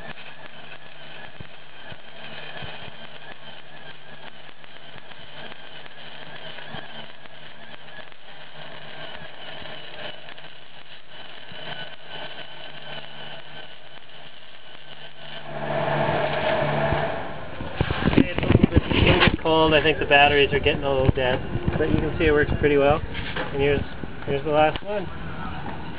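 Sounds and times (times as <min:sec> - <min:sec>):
steady hum: 0:00.0 - 0:25.9
welding arc crackling: 0:00.0 - 0:25.9.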